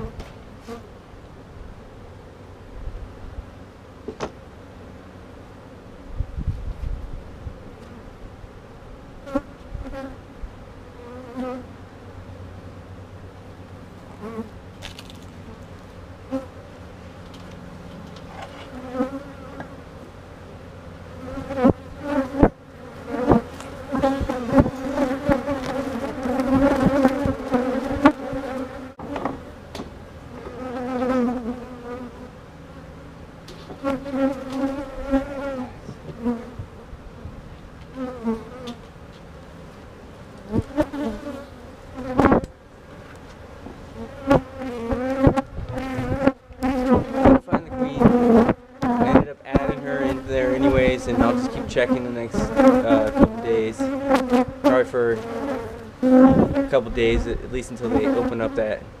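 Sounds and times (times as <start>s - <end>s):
bees buzzing: 7.7s - 59.0s.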